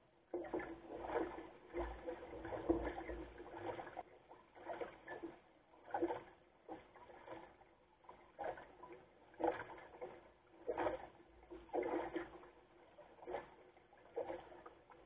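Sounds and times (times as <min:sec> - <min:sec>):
waves splashing against hull: 0:00.2 - 0:15.0.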